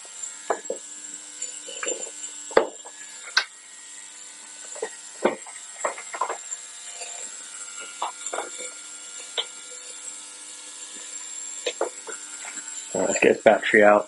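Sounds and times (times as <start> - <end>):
ultrasonic cleaner humming: 0.0 - 14.0.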